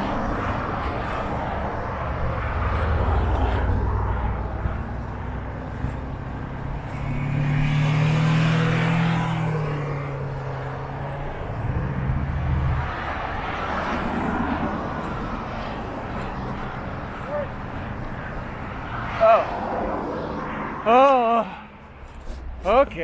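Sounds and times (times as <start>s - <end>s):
wind rushing over microphone: 0.0s - 20.9s
passing engine hum: 0.0s - 23.0s.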